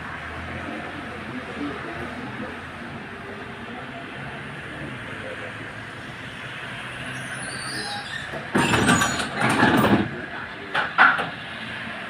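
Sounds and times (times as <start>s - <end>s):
tram interior hum: 0.0s - 12.0s.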